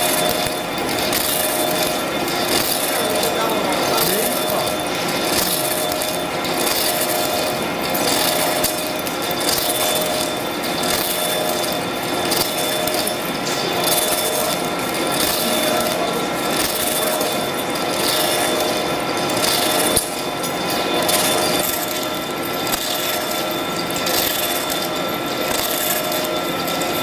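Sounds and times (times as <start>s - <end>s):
lathe machining noise: 0.0s - 27.0s.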